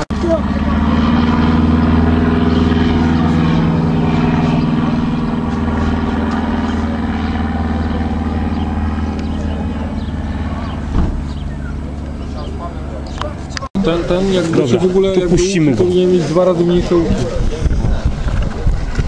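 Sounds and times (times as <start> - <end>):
propeller plane engine: 0.0 - 19.0.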